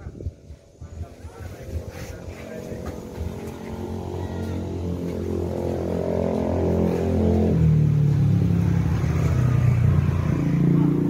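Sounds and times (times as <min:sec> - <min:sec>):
passing vehicle engine: 0:01.5 - 0:11.0.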